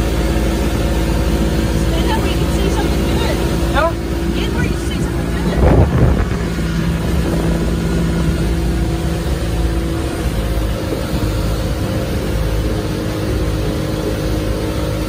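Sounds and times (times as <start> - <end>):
motorboat engine droning: 0.0 - 15.0
water noise: 0.0 - 15.0
wind: 0.0 - 15.0.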